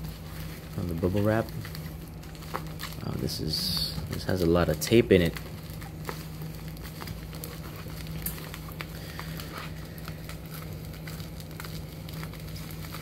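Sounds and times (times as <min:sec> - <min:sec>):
bubble wrap crinkling: 0:00.0 - 0:13.0
steady low hum: 0:00.0 - 0:13.0.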